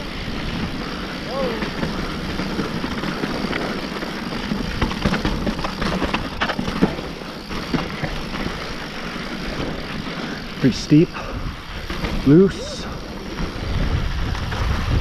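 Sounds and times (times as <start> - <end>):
bike clattering over rough ground: 0.0 - 15.0
tyres crunching over gravel: 0.1 - 15.0.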